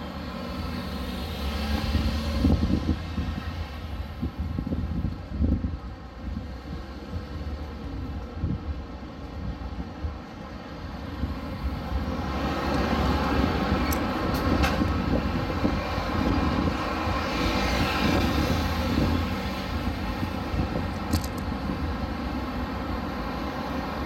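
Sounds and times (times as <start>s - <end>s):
passing road traffic: 0.0s - 24.0s
wind on microphone: 1.7s - 23.7s.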